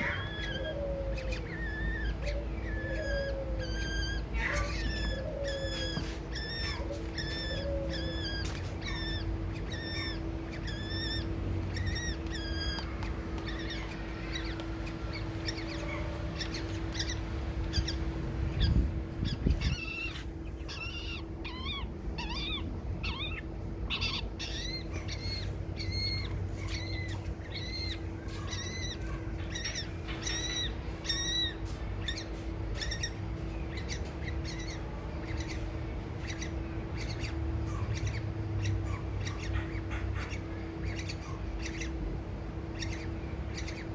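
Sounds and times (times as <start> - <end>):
baby birds chirping: 0.0 - 43.9.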